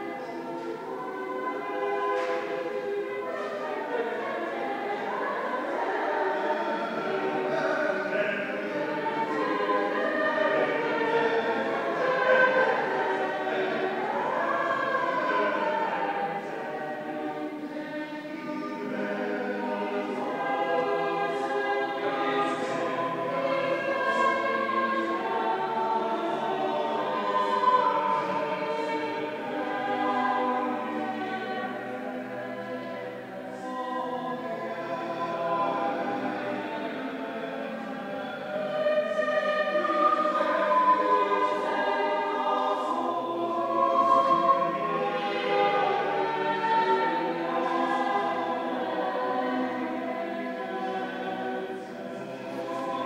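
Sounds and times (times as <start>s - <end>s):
choir singing sustained notes: 0.0s - 53.0s.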